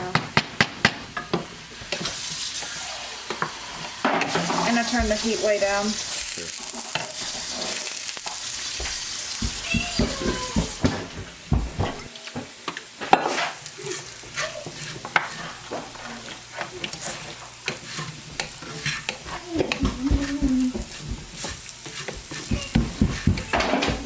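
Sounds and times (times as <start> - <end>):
food sizzling in a pan: 0.0 - 24.0
utensil stirring and scraping: 1.8 - 10.9, 13.1 - 24.0.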